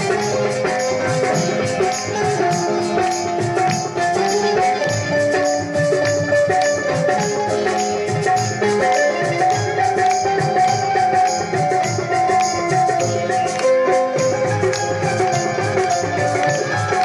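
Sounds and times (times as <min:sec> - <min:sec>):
hand drum beat: 0:00.0 - 0:17.0
harmonium melody: 0:00.0 - 0:17.0
small hand cymbals jingling: 0:00.0 - 0:17.0.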